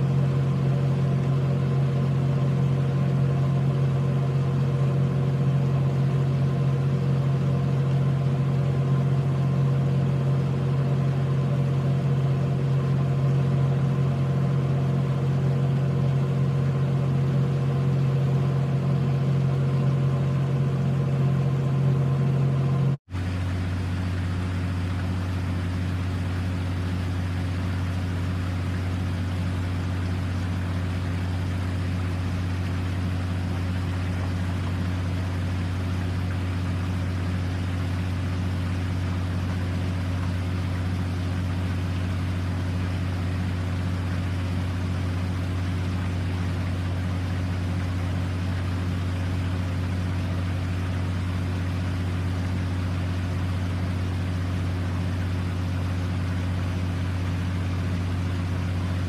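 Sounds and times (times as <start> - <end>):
motor running steadily: 0.0 - 59.0.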